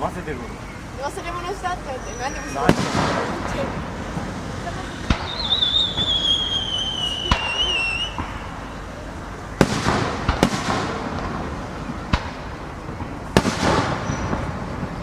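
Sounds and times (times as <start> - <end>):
firework crackling: 0.0 - 15.0
firework whistle: 1.9 - 15.0
firework shells bursting: 2.1 - 15.0.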